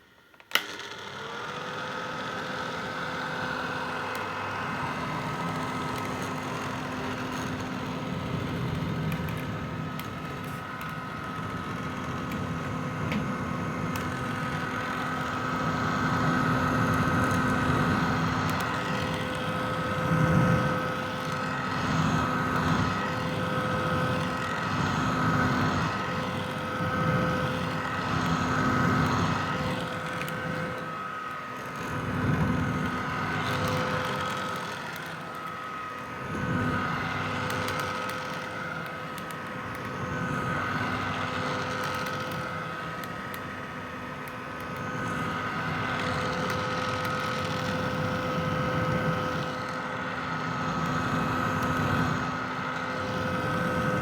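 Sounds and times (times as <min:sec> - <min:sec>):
hair dryer motor whine: 0:00.0 - 0:54.0
rushing fan air: 0:01.6 - 0:54.0.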